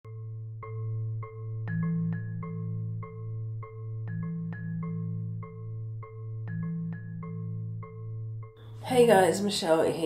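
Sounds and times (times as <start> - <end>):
mallet percussion tune: 0.1 - 8.8.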